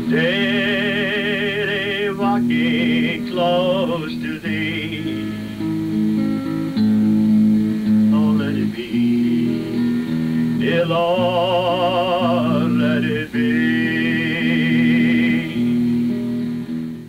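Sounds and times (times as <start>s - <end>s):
person singing with vibrato: 0.0s - 5.6s, 8.0s - 16.2s
acoustic guitar strumming: 0.0s - 17.0s.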